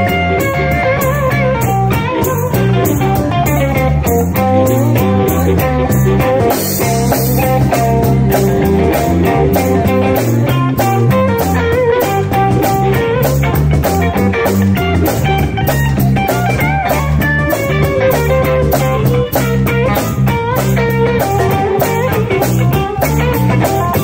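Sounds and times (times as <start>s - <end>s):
electric guitar lines: 0.0s - 24.0s
live blues band playing: 0.0s - 24.0s.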